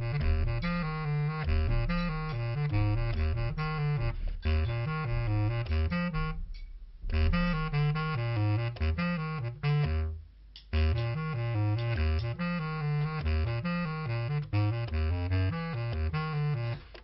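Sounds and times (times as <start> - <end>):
lively film music: 0.0 - 17.0.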